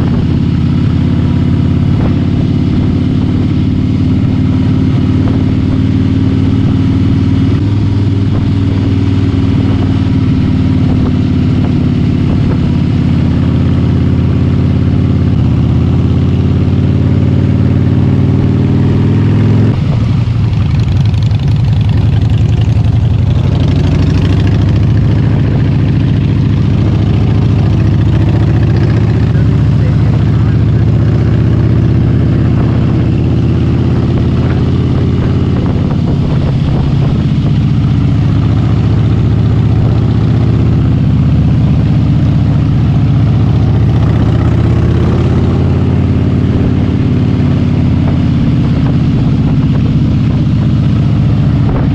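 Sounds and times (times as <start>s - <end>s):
motorcycle engine running: 0.0s - 51.9s
rushing wind noise: 0.0s - 51.9s.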